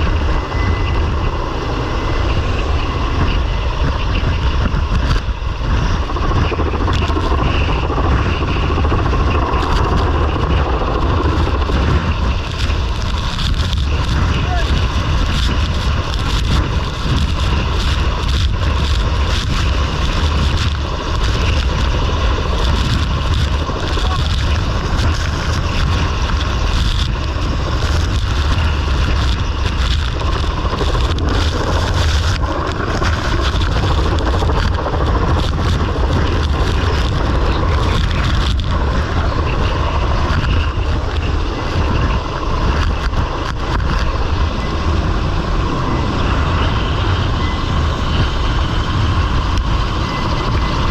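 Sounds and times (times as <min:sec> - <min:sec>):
engine drone with whine: 0:00.0 - 0:50.9
wind on microphone: 0:00.0 - 0:50.9.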